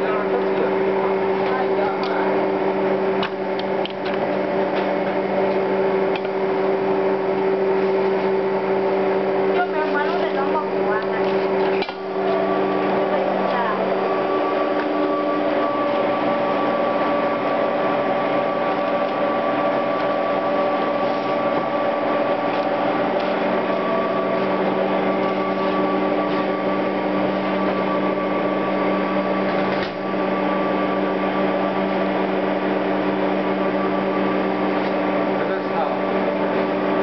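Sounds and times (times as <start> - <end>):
machine humming: 0.0 - 37.0.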